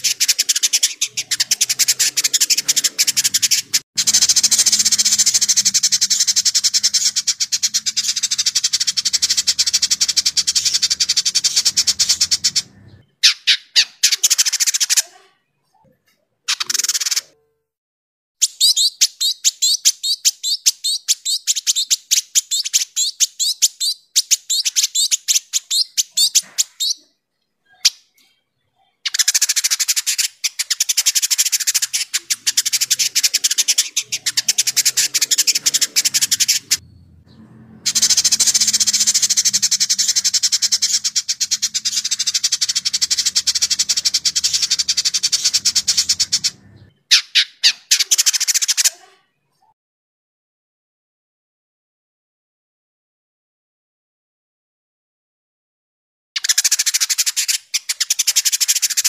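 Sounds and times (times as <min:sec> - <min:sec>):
bird chattering song: 0:00.0 - 0:17.4, 0:18.4 - 0:49.7, 0:56.4 - 0:59.0.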